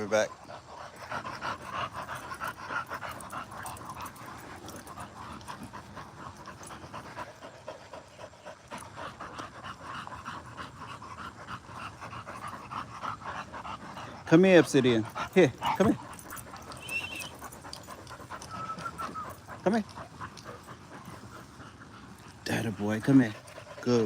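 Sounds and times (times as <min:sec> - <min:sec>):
dog panting rapidly: 0:00.0 - 0:24.0.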